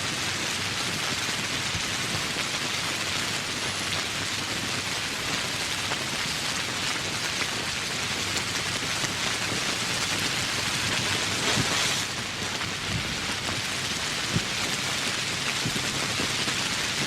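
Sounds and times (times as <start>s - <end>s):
heavy rain on foliage: 0.0s - 17.0s
raindrop ticks: 1.5s - 17.0s.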